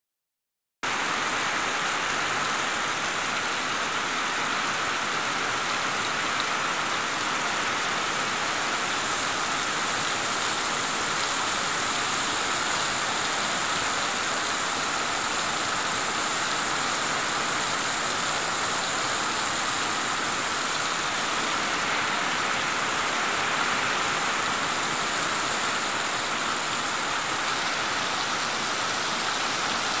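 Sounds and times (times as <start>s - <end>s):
heavy rain splashing: 0.9s - 30.0s.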